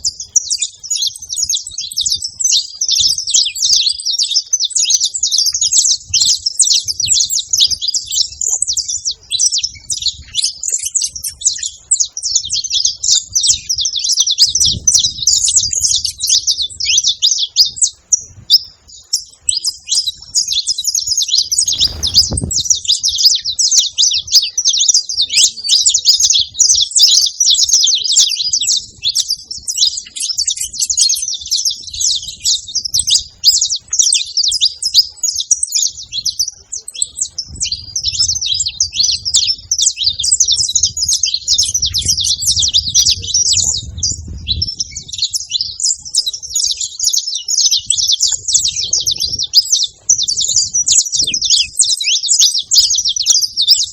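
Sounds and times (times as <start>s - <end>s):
finches chirping and trilling: 0.0s - 53.9s.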